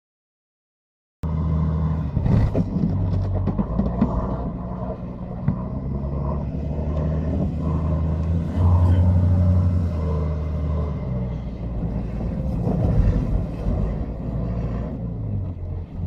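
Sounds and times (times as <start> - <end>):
ship engine rumble: 1.3 - 16.0.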